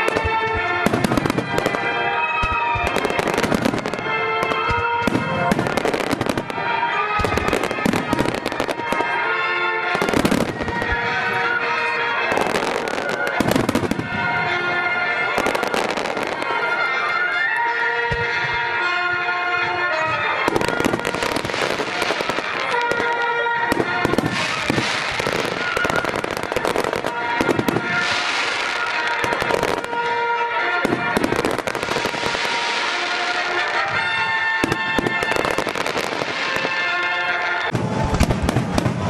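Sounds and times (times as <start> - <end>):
fireworks bursting and crackling: 0.0 - 39.0
music playing: 0.0 - 39.0.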